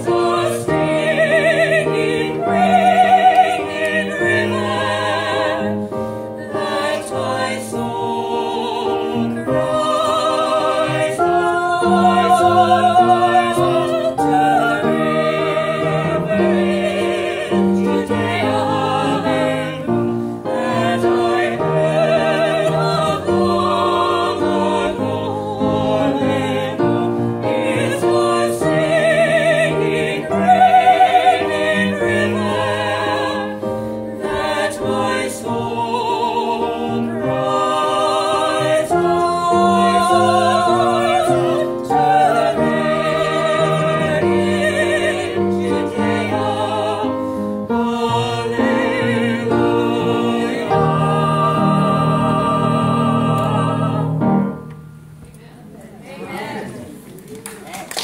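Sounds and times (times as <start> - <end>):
vocal quartet singing in parts: 0.0 - 55.2.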